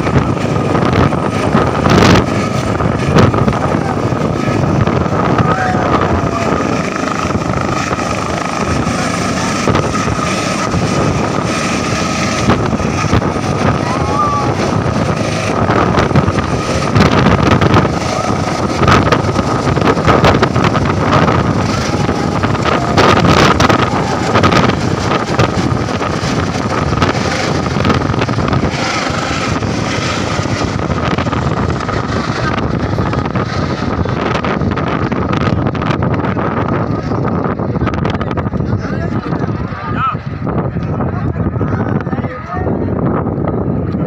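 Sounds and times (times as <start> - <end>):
helicopter rotor noise: 0.0 - 44.0
helicopter turbine whine: 0.0 - 44.0
wind buffeting microphone: 0.0 - 44.0.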